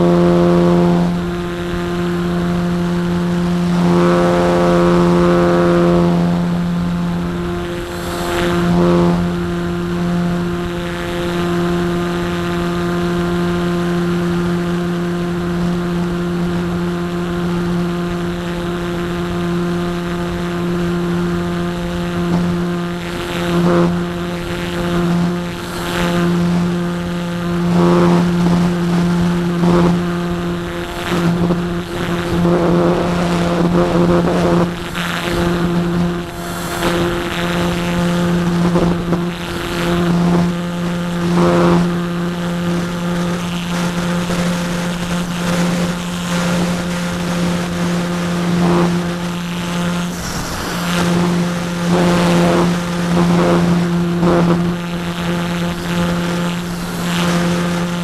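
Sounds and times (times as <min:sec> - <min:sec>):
electric motor and propeller: 0:00.0 - 0:58.0
wind rushing over microphone: 0:00.0 - 0:58.0.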